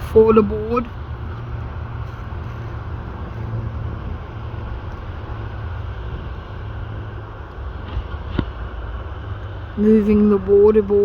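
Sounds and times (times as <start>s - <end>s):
aircraft engines running: 0.0s - 11.0s.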